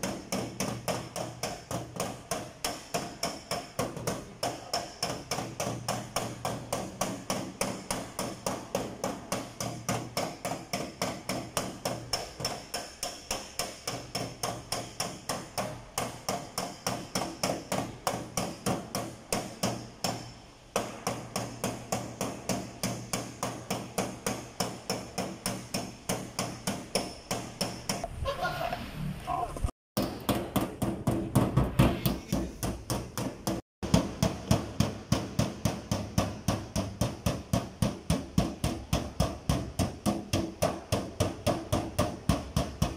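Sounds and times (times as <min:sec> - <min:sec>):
metal tool striking sheet metal: 0:00.0 - 0:28.1, 0:30.0 - 0:42.9.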